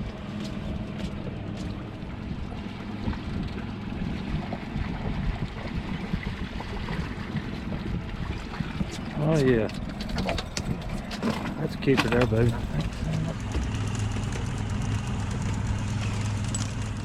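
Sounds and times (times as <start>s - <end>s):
boat motor humming: 0.0s - 17.0s
water around hull: 0.0s - 17.0s.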